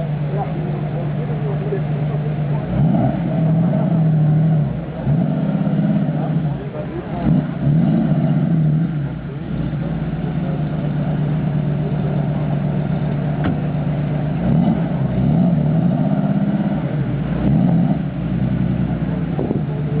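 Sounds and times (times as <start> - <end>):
car engine idling: 0.0 - 20.0
engine revving: 0.0 - 20.0.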